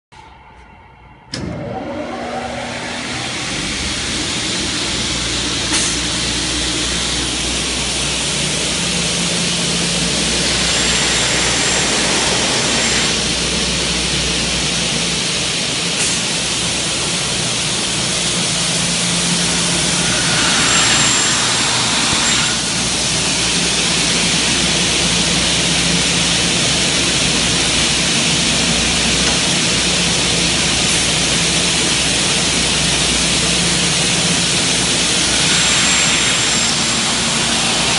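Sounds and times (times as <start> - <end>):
cutting saw hissing and humming: 1.3 - 37.9.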